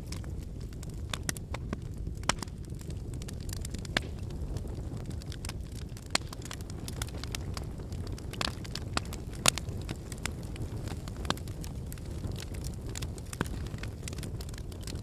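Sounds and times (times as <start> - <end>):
fire crackles and pops: 0.0 - 15.0
flames fluttering: 0.0 - 15.0.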